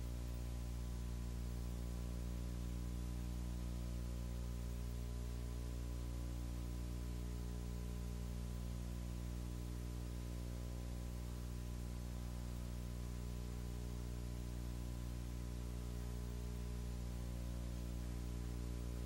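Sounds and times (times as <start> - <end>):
buzzy electrical hum: 0.0 - 19.0
constant hiss: 0.0 - 19.0.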